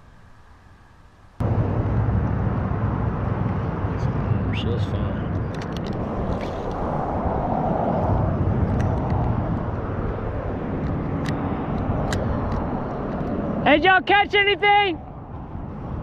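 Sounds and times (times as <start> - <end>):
highway traffic noise: 0.0 - 16.0
vehicle passing: 1.4 - 16.0.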